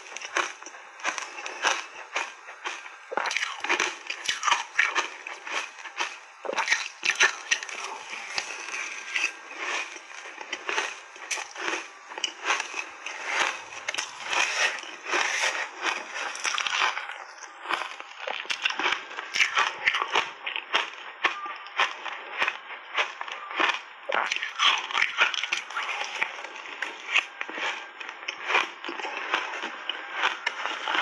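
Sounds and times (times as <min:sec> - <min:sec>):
crunching shaved ice: 0:00.0 - 0:31.0.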